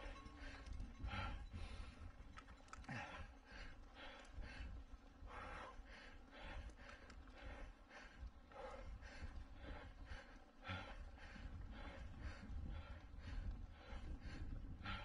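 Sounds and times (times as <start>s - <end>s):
hard fast breathing: 0.0s - 15.0s
steady low rumble: 0.0s - 15.0s.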